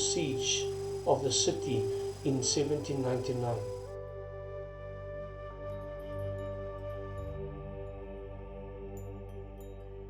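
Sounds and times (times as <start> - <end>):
slow new-age music: 0.0 - 10.0.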